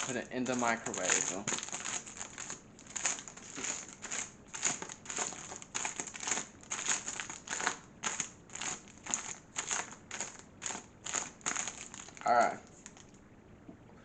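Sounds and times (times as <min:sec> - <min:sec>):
paper bag crinkling: 0:00.0 - 0:13.2.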